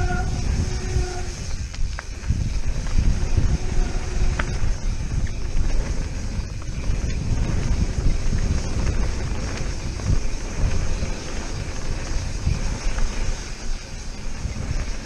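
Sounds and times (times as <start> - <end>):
bike tyres rumbling on gravel: 0.0 - 15.0
wind on microphone: 0.0 - 15.0.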